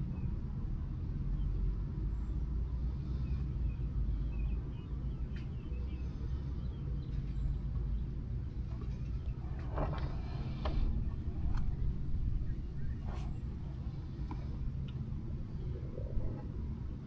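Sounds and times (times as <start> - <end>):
engine idling with low rumble: 0.0 - 17.0.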